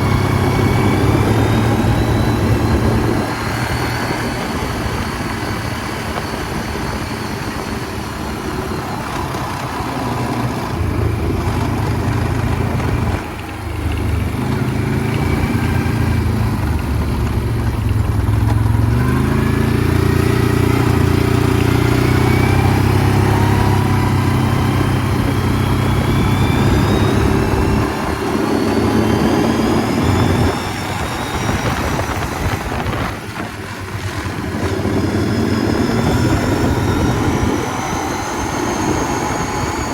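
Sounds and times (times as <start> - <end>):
atv engine accelerating: 0.0 - 39.9.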